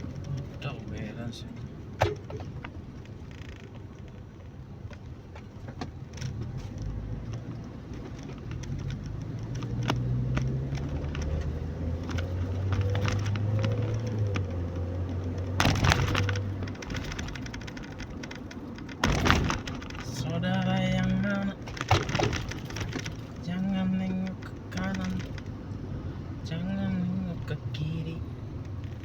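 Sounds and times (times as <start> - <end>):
car engine hum: 0.0 - 29.0
road noise: 0.0 - 29.0
small clicks: 2.2 - 25.6.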